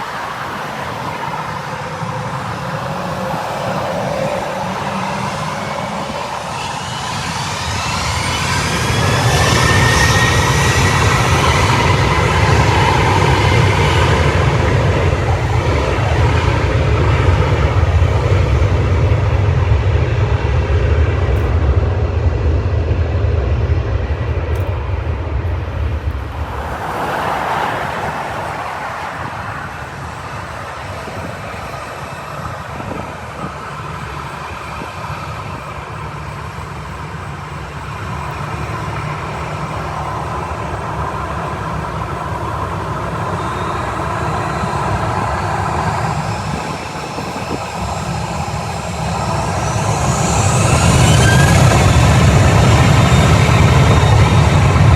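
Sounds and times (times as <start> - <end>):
distant jet noise: 0.0 - 54.9
high engine whine: 0.0 - 54.9
jet engines rumbling: 0.0 - 54.9.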